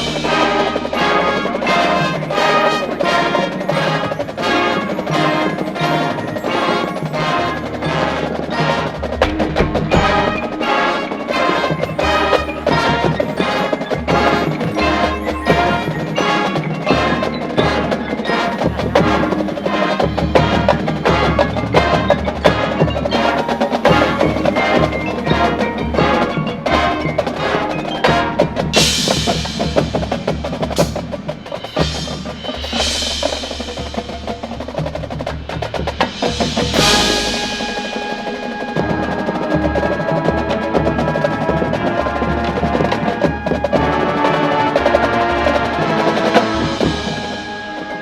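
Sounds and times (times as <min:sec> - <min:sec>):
bright high cymbal washes: 0:00.0 - 0:39.5
marching band playing: 0:00.0 - 0:48.0.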